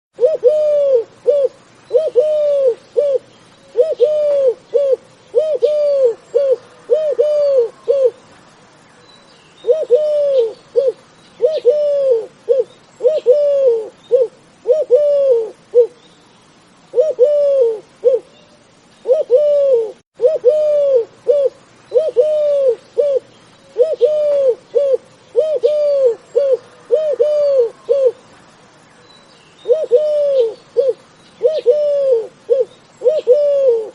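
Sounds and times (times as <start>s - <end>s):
dove cooing: 0.2s - 8.4s, 9.6s - 16.0s, 16.9s - 18.4s, 19.0s - 28.2s, 29.6s - 33.9s
small birds chirping faintly: 0.2s - 33.9s.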